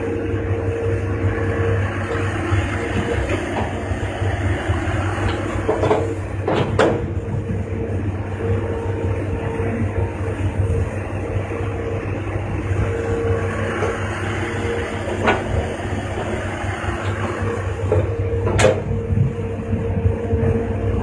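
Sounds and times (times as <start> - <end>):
excavator engine whining and rumbling: 0.0 - 21.0.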